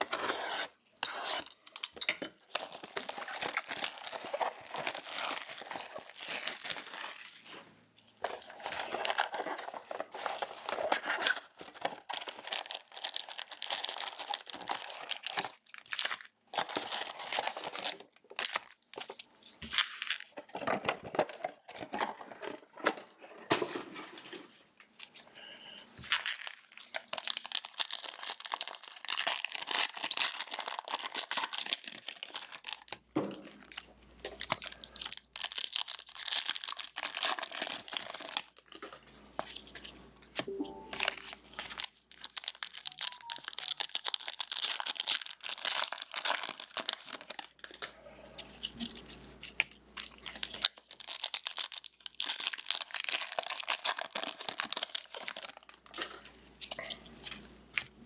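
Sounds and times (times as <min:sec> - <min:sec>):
plastic wrapping crinkling and tearing: 0:01.3 - 0:22.5, 0:25.8 - 0:58.0.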